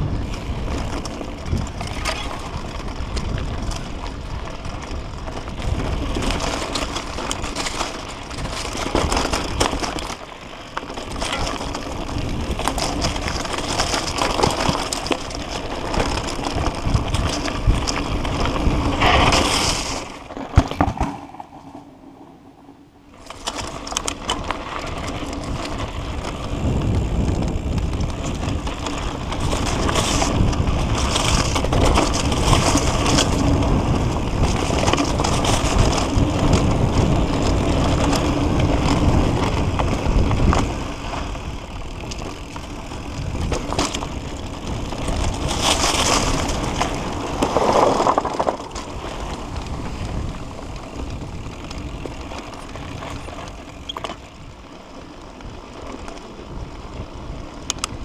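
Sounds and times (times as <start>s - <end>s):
bike rattling and clicking: 0.0s - 58.0s
bike tyres crunching over dirt: 0.0s - 58.0s.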